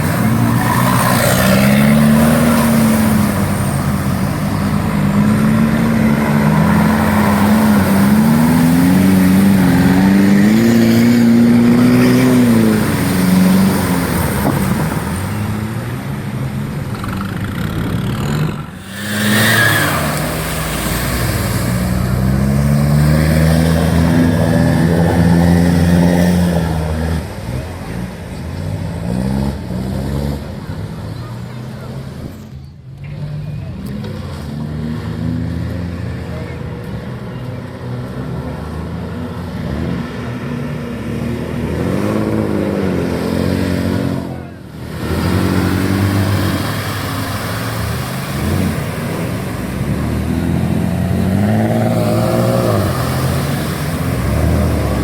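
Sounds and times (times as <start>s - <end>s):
four-wheel-drive engine revving: 0.0s - 32.3s, 33.0s - 55.0s.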